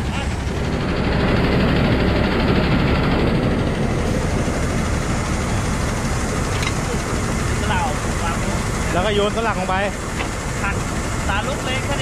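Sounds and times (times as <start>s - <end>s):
combine harvester engine droning: 0.0s - 12.0s.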